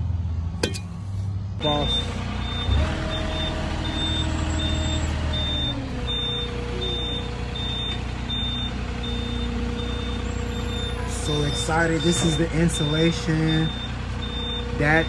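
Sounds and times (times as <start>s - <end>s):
forklift engine running: 0.0s - 15.0s
backup alarm beeping: 1.6s - 15.0s.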